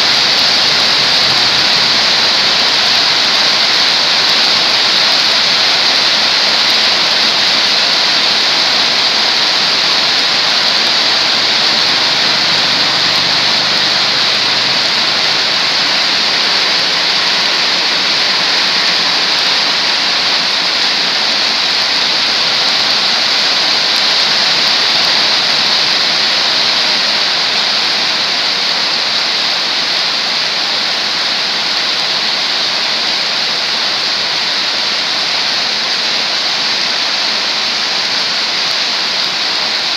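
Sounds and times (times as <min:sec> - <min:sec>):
heavy rain on wet road: 0:00.0 - 0:39.9.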